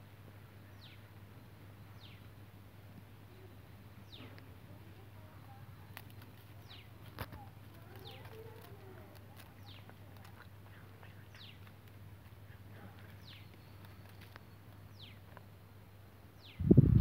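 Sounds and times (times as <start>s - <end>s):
steady low hum: 0.0s - 17.0s
bird chirping: 0.6s - 2.4s, 3.3s - 4.4s, 5.4s - 16.7s.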